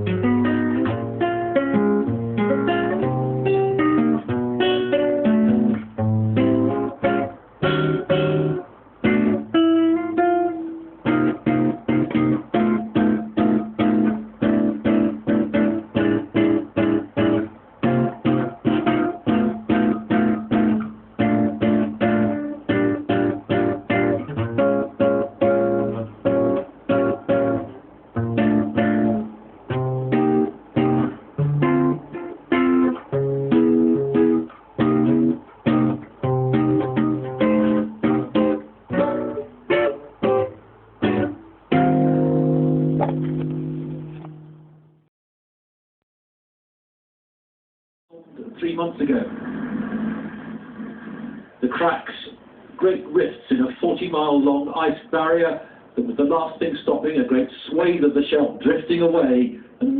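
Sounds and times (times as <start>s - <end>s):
acoustic guitar plucked and strummed: 0.0s - 45.0s, 49.1s - 52.0s, 59.6s - 59.9s.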